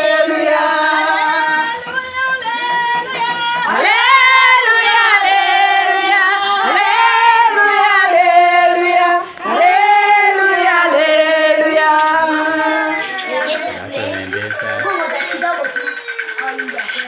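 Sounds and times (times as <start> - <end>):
women singing: 0.0 - 15.7.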